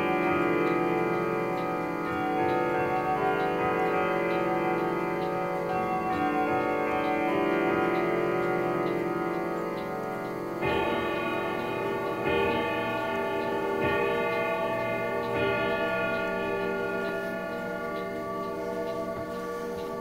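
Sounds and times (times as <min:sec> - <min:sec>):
clock chime strokes: 0:00.0 - 0:20.0
pendulum clock ticking: 0:00.0 - 0:20.0.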